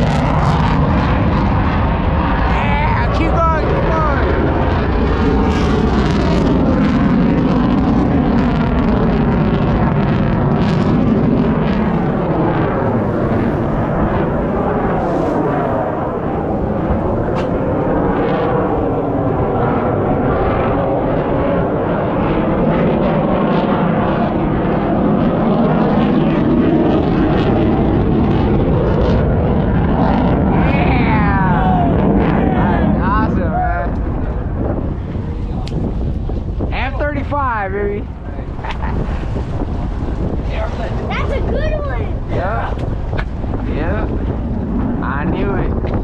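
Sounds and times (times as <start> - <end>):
airplane engine flying past: 0.0 - 46.0.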